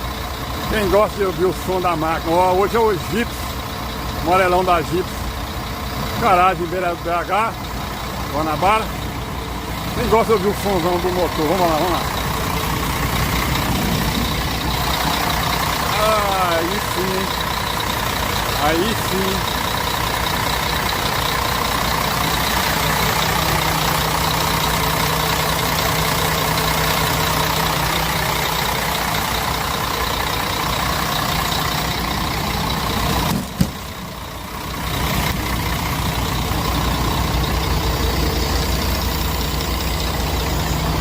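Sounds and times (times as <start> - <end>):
bus diesel engine idling: 0.0 - 41.0.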